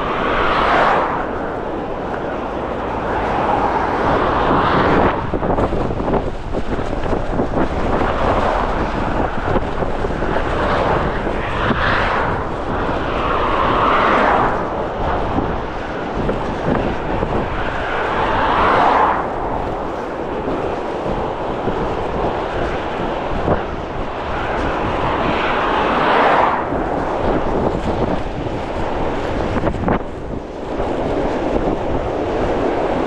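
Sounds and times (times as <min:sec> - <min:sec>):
gusty wind buffeting microphone: 0:00.0 - 0:33.0.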